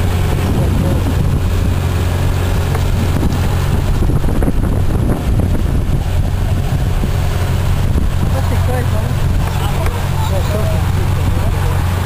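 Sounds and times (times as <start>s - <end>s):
engine droning: 0.0s - 12.0s
wind on microphone: 0.0s - 12.0s.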